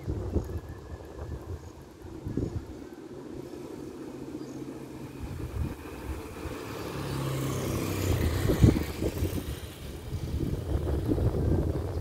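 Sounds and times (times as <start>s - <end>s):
motor scooter passing by: 0.0s - 12.0s.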